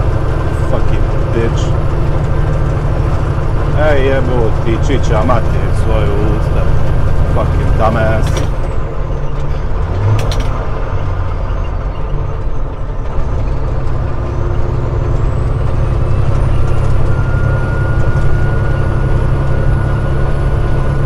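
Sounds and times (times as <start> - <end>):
road noise: 0.0 - 21.0
truck diesel engine running: 0.0 - 21.0.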